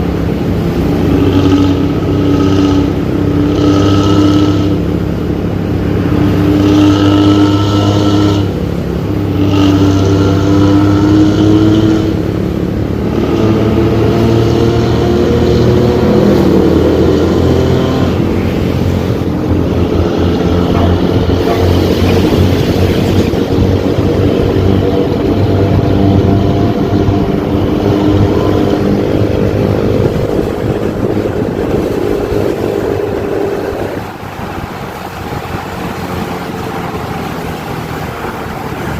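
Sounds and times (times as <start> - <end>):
bus engine with loud exhaust drone: 0.0 - 38.9.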